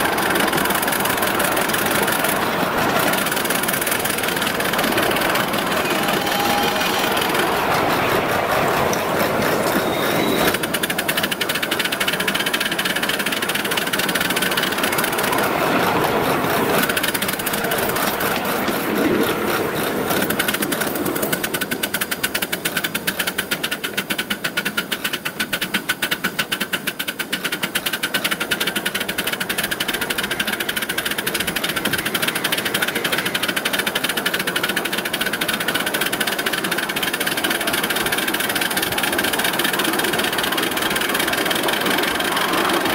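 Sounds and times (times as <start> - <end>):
steam locomotive mechanical beat: 0.0 - 42.9.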